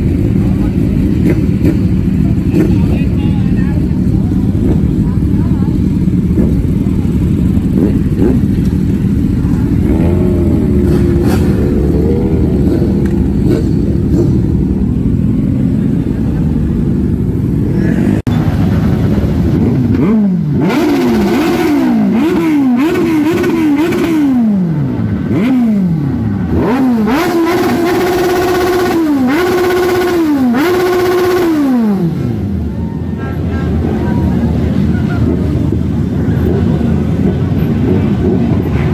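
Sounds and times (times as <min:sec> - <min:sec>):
motorcycle throttle revving: 0:00.0 - 0:18.2, 0:19.4 - 0:32.6
motorcycle engines rumbling: 0:00.0 - 0:38.9.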